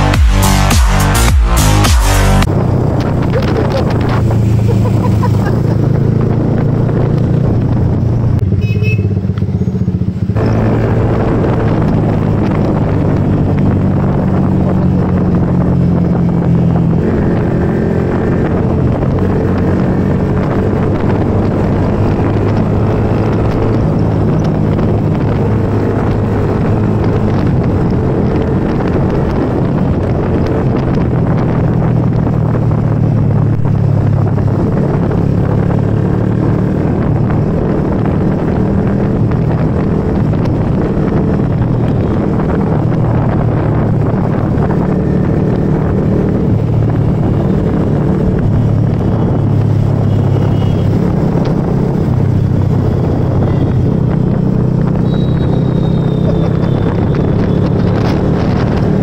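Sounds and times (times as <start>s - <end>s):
motorcycle engines cruising: 0.0s - 59.0s
road noise: 0.0s - 59.0s
wind noise: 0.0s - 59.0s.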